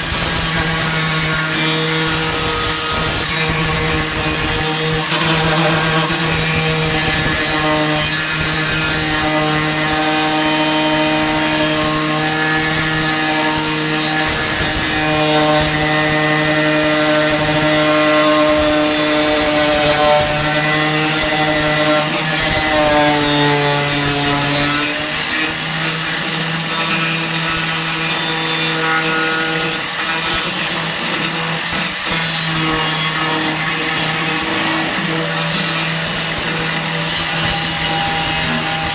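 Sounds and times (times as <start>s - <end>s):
angle grinder on sheet steel: 0.0s - 38.9s.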